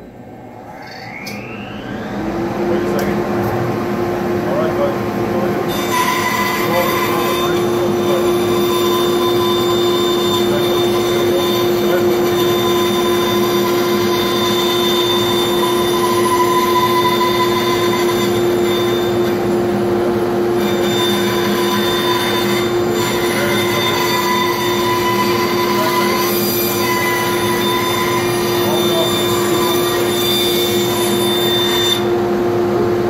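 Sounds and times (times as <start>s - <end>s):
band saw and shop vacuum drone: 0.0s - 33.0s
high machine whine: 0.0s - 33.0s.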